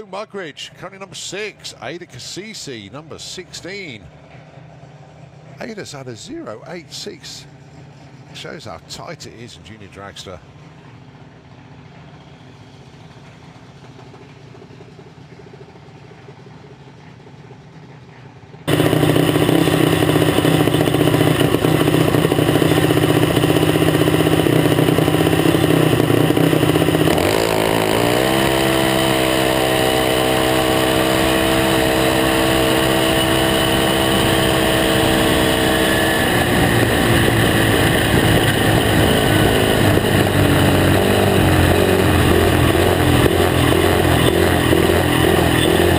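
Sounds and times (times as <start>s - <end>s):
race car engine running: 0.0s - 45.9s.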